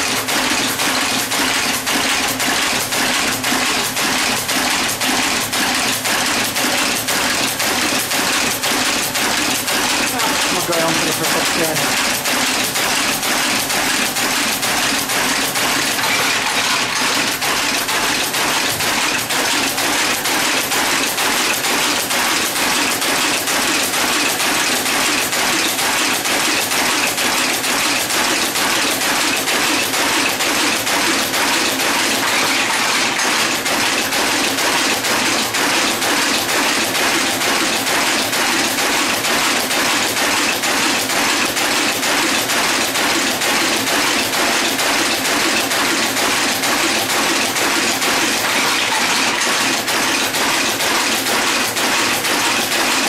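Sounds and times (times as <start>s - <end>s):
machine clattering metallic clicks: 0.0s - 10.5s, 11.8s - 53.0s.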